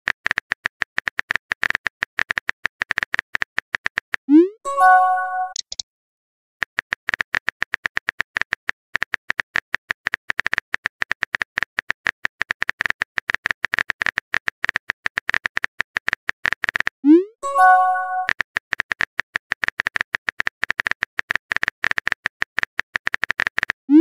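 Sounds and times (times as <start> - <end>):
rapid sharp clicks: 0.1 - 4.3, 5.5 - 5.8, 6.6 - 17.0, 18.2 - 23.8.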